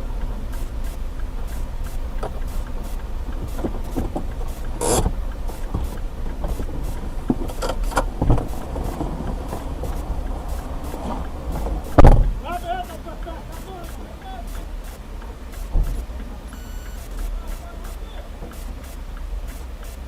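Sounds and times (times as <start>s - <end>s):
road vehicle rumbling: 0.0s - 20.0s.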